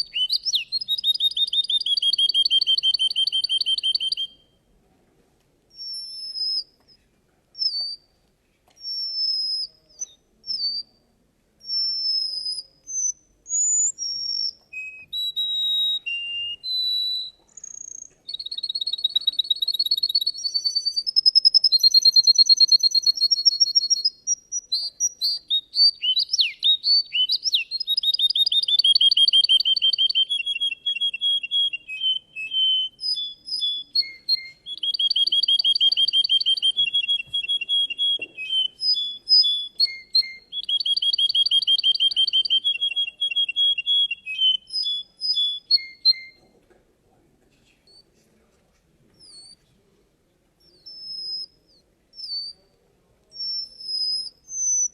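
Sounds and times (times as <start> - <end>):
canary singing trills: 0.0 - 4.6, 5.7 - 6.9, 7.6 - 8.1, 8.8 - 11.0, 11.6 - 46.4, 50.6 - 52.7, 53.3 - 54.9.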